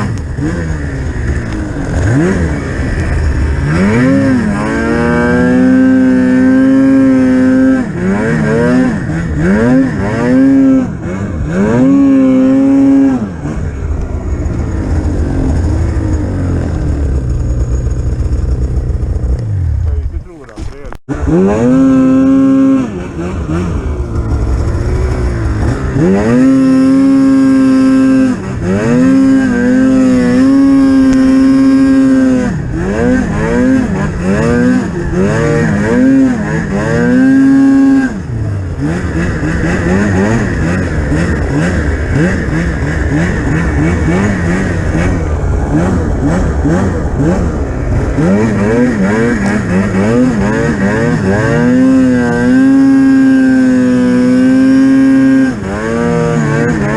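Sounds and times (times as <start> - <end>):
snowmobile engine revving: 0.0 - 56.9.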